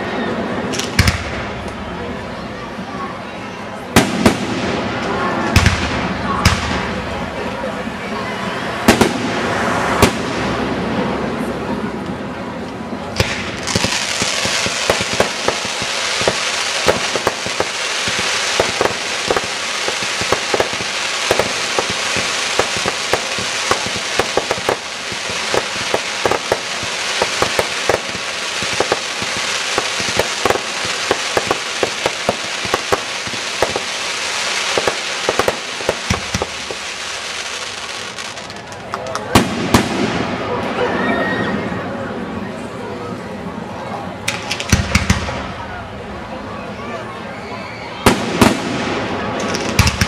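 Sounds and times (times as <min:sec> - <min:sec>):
fireworks crackling: 0:00.6 - 0:02.8, 0:03.8 - 0:08.1, 0:08.8 - 0:10.9, 0:12.6 - 0:40.8, 0:44.3 - 0:46.2, 0:48.0 - 0:50.0.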